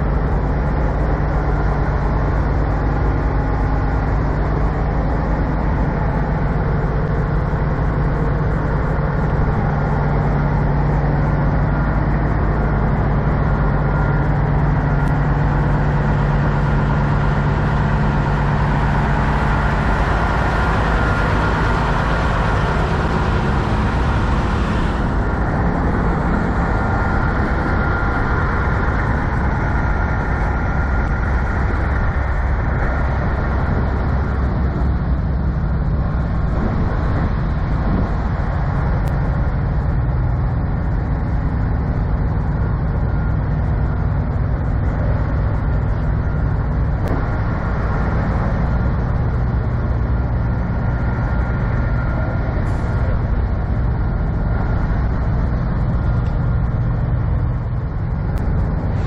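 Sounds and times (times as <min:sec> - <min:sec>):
diesel truck engines idling: 0:00.0 - 0:59.0.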